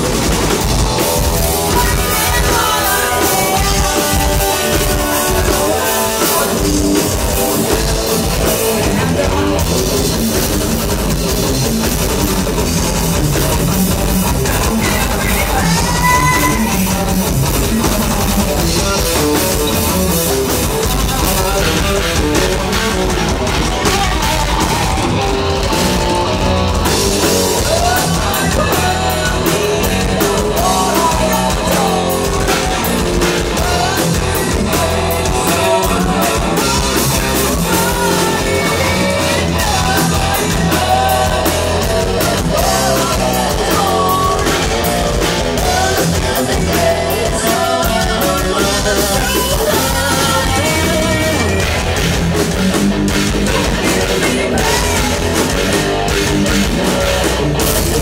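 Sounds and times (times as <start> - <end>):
drum kit: 0.0 - 58.0
electric bass: 0.0 - 58.0
electric guitar: 0.0 - 58.0
person singing: 1.0 - 10.8, 13.6 - 52.2, 52.8 - 58.0.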